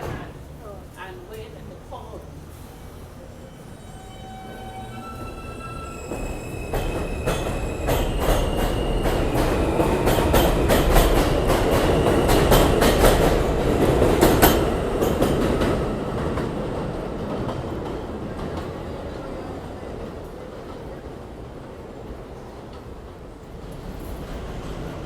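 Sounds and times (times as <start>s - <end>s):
subway train wheels clicking on rails: 0.0s - 25.0s.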